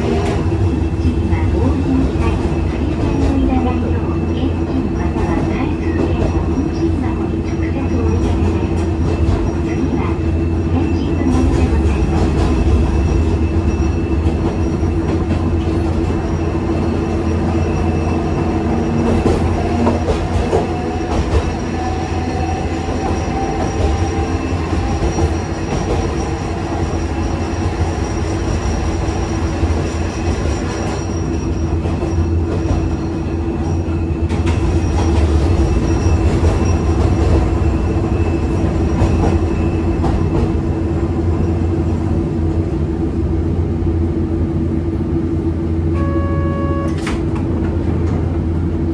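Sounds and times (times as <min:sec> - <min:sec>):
streetcar motor hum: 0:00.0 - 0:48.9.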